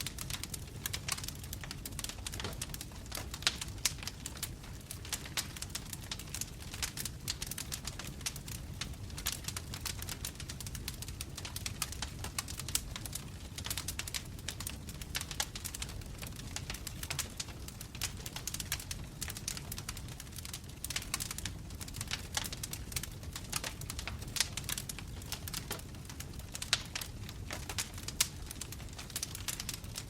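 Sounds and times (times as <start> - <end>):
low fire rumble: 0.0 - 30.0
wood fire crackling and popping: 0.0 - 30.0.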